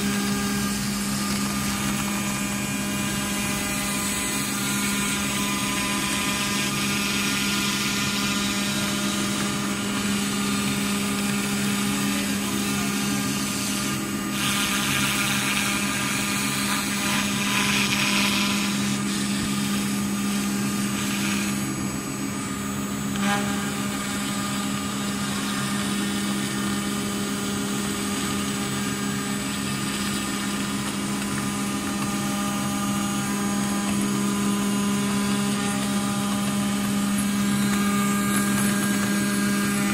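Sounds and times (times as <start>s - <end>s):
end mill hissing cutting metal: 0.0s - 39.9s
machine spindle hum with whine: 0.0s - 39.9s.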